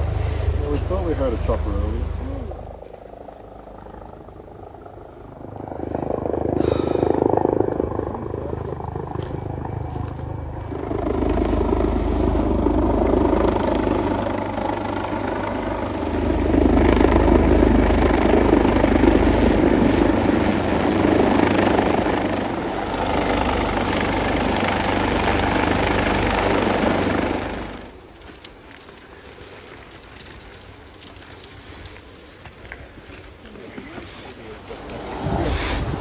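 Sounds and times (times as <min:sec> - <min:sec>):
helicopter rotor and engine: 0:00.0 - 0:36.0.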